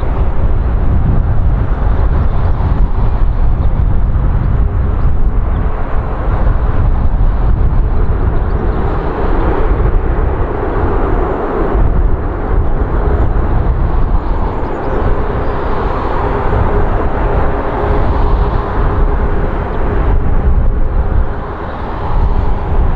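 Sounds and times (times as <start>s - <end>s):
jet engines running: 0.0s - 22.9s
wind rumble on microphone: 0.0s - 22.9s.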